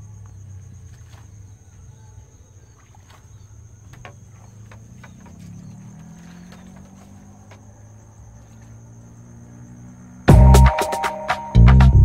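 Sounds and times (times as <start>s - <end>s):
insects buzzing: 0.0s - 11.6s.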